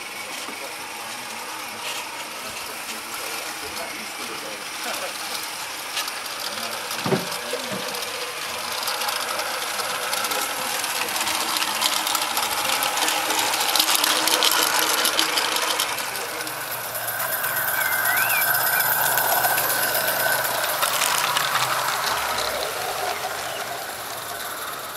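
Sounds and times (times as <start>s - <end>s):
model train clicking over a hiss: 0.0s - 24.9s.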